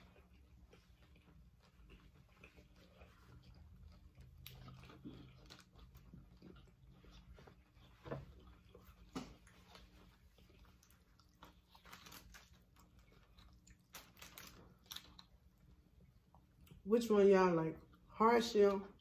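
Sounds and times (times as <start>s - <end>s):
crunching and chewing tacos: 0.0s - 16.9s, 17.7s - 18.2s.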